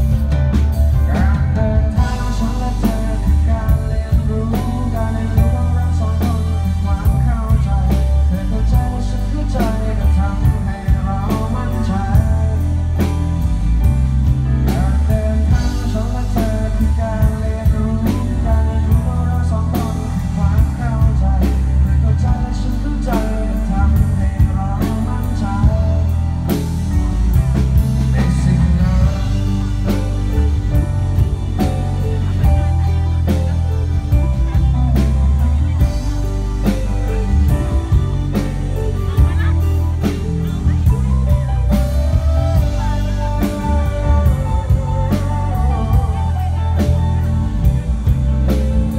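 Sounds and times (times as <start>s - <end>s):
heavy bass: 0.0s - 48.9s
live rock band: 0.0s - 48.9s
steady drum beat: 0.0s - 48.9s.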